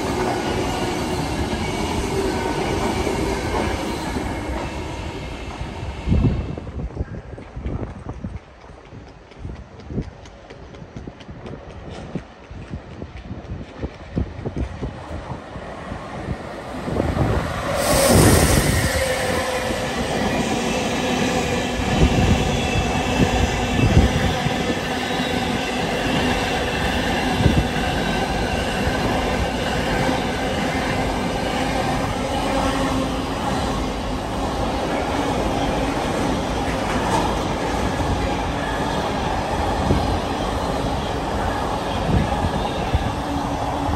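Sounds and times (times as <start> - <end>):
freight train passing: 0.0 - 43.9.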